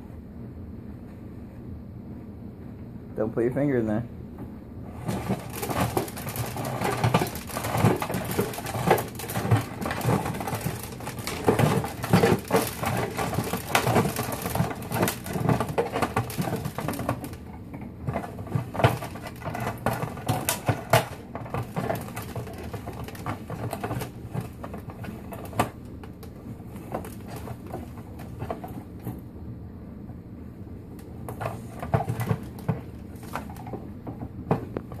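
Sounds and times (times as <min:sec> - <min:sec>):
grain mill crackling: 0:04.8 - 0:29.2, 0:30.9 - 0:35.0.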